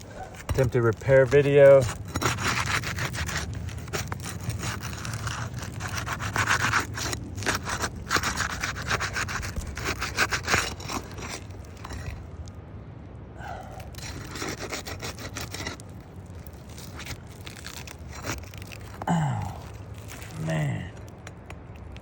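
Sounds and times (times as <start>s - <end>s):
tool scraping under roof shingles: 0.0s - 12.3s, 13.8s - 21.1s.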